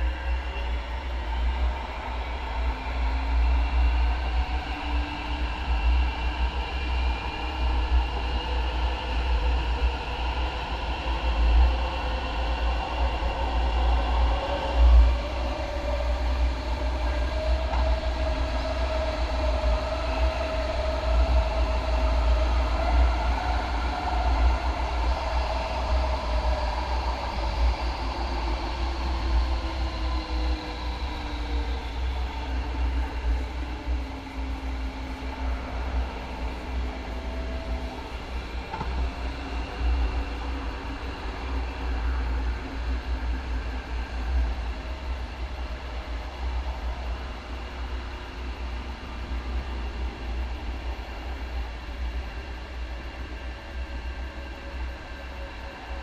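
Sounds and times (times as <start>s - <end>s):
light rail train rumble: 0.0s - 56.0s.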